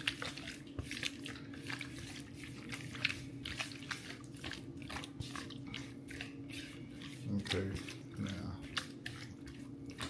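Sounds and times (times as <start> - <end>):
low steady hum: 0.0 - 10.0
wet squelches of mixing shrimp: 0.0 - 10.0.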